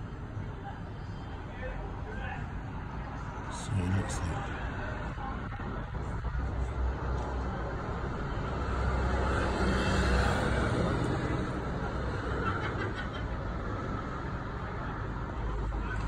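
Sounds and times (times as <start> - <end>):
traffic rumble and tyre hiss: 0.0 - 16.0.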